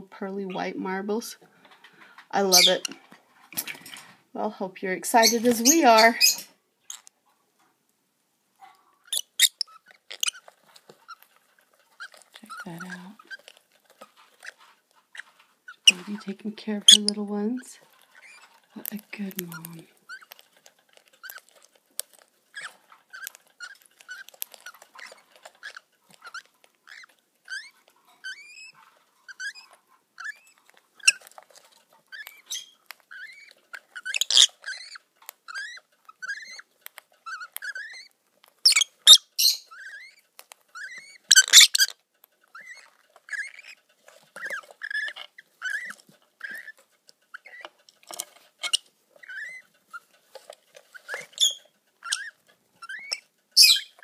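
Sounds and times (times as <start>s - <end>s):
bird chicks chirping: 1.7s - 4.1s, 5.1s - 7.1s, 8.6s - 54.0s.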